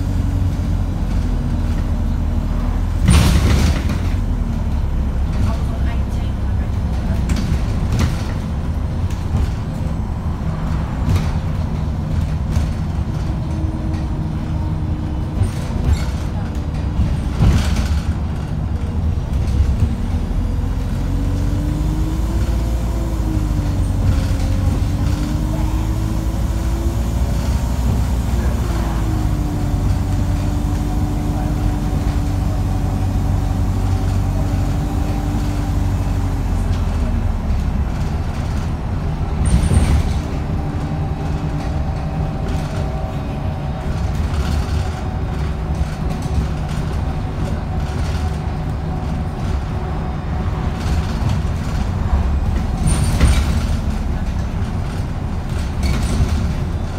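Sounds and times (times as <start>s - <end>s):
bus engine rumble and whine: 0.0s - 56.9s.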